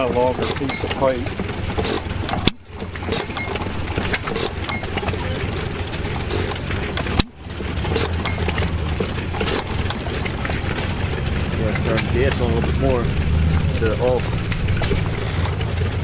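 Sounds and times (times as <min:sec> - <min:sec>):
old gas engine running: 0:00.0 - 0:16.0.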